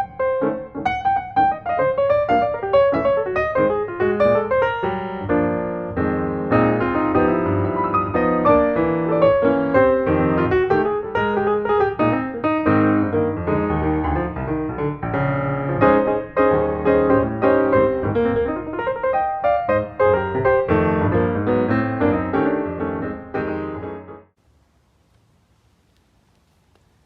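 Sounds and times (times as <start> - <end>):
piano music: 0.0 - 24.4.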